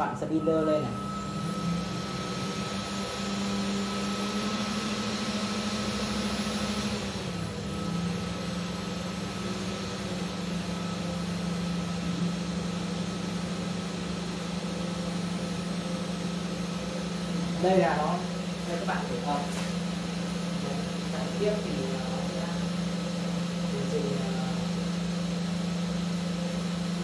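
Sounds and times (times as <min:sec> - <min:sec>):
machine motors humming: 0:00.0 - 0:27.0.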